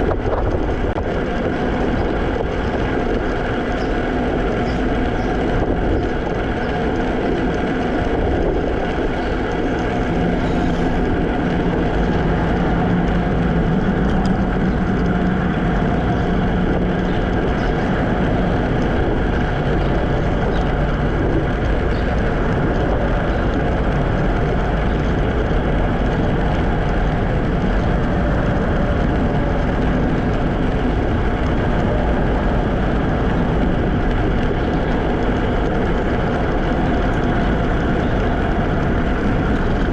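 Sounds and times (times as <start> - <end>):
low hum: 0.0 - 39.9
road noise: 0.0 - 39.9
wind on microphone: 0.0 - 39.9.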